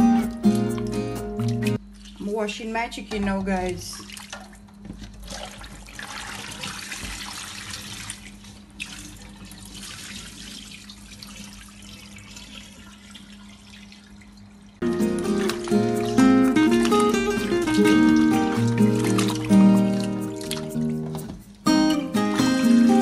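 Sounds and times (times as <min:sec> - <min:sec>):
water splashing in sink: 0:00.0 - 0:21.6.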